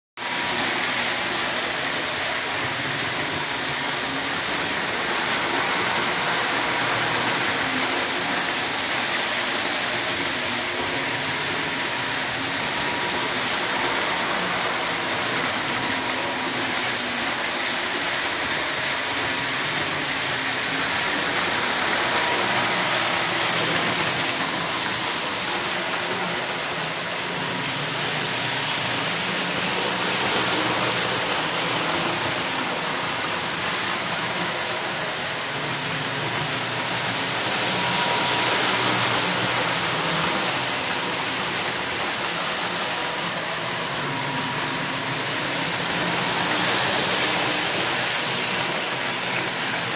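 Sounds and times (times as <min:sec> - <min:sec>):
model trains rolling on track: 0:00.2 - 0:49.9.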